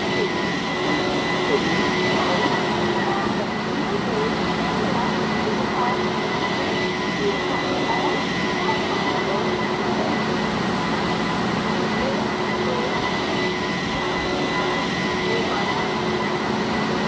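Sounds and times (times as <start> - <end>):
murmur of distant voices: 0.0 - 17.0.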